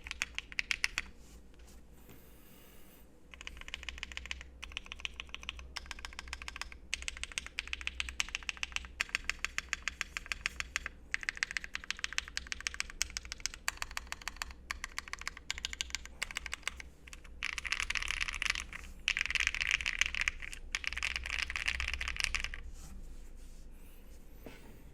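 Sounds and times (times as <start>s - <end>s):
mechanical keyboard typing: 0.0s - 1.1s, 3.3s - 22.6s.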